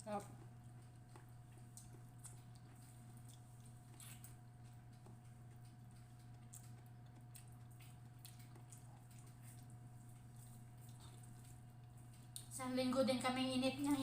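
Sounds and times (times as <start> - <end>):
low electrical hum: 0.0 - 14.0
chewing mouth smacks: 0.3 - 12.6.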